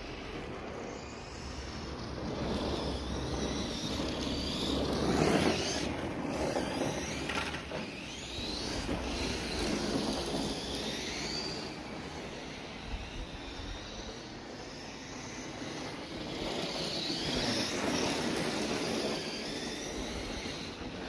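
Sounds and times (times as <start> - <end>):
electric motor and gears whining: 0.0 - 21.0.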